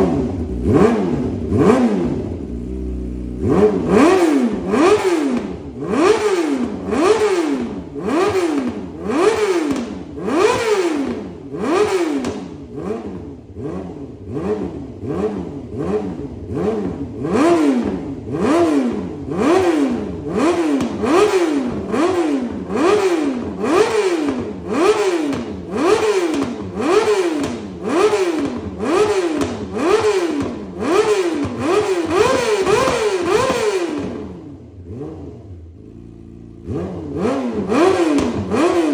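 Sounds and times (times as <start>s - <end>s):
motorcycle engine throttle blips: 0.0s - 38.9s.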